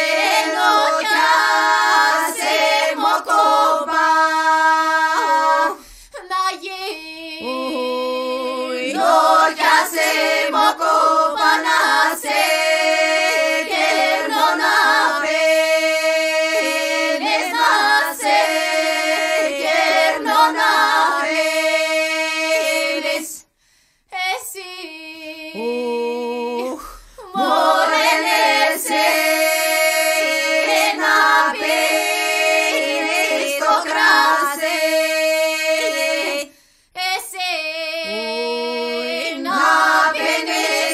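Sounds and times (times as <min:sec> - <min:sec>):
female vocal ensemble singing: 0:00.0 - 0:40.9.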